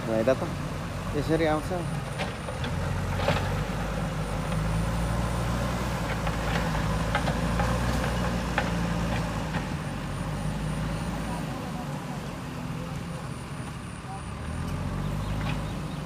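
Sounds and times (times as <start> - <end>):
diesel construction machinery running: 0.0 - 16.0.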